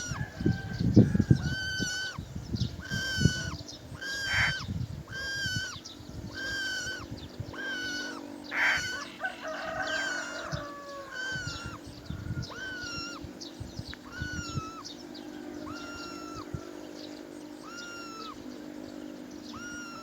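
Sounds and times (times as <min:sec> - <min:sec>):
bird calling: 0:00.0 - 0:20.0.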